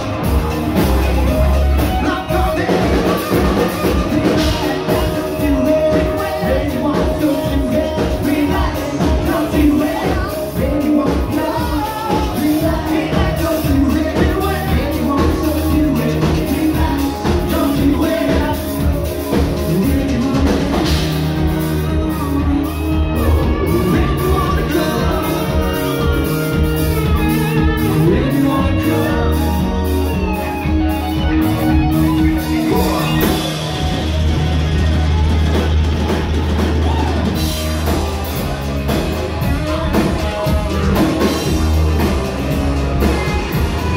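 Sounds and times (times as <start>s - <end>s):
bass line: 0.0s - 43.9s
drum kit: 0.0s - 43.9s
electric guitar: 0.0s - 43.9s
singer: 0.0s - 43.9s.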